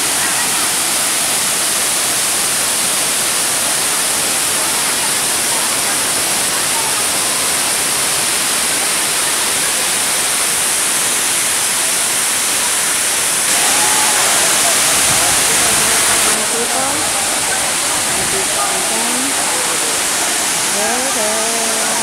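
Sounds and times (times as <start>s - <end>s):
waterfall rushing on rock: 0.0s - 22.0s.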